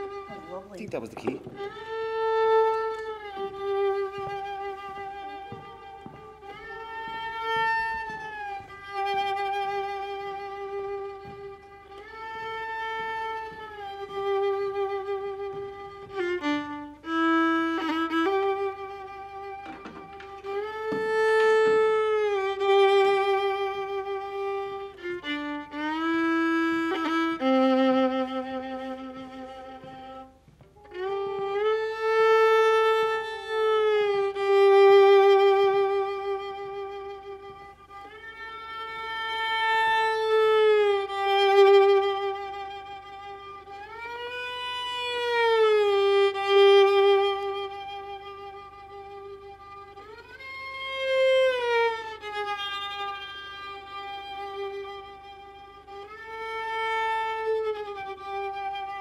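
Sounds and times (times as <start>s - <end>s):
fiddle bowed in sliding notes: 0.0s - 59.0s.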